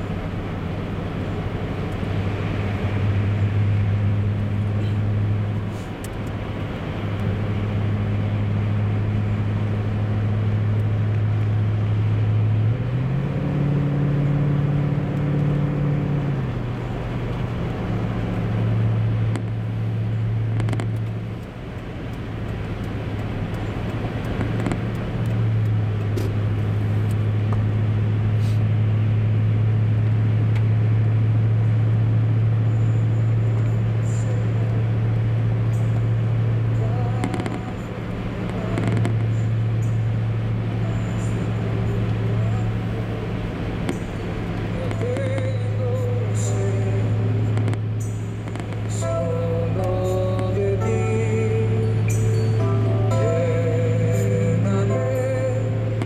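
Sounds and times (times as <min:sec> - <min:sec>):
car engine drone from inside: 0:00.0 - 0:56.0.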